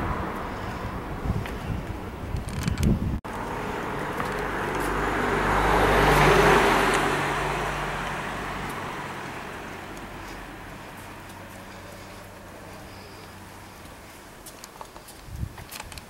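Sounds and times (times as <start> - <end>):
vehicle passing by: 0.0 - 2.4, 3.3 - 14.5.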